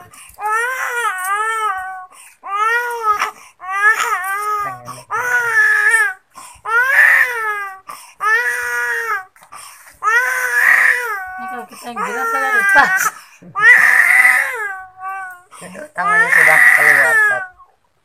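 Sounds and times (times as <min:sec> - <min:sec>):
infant crying: 0:00.0 - 0:09.4, 0:10.0 - 0:17.7.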